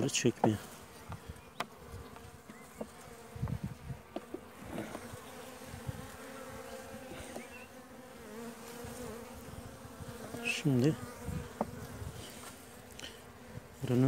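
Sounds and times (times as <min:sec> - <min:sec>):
honeybees humming: 0:00.0 - 0:14.0.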